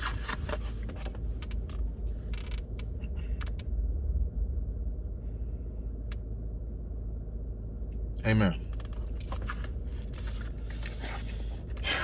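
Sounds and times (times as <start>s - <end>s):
low rumble in car cabin: 0.0s - 12.0s.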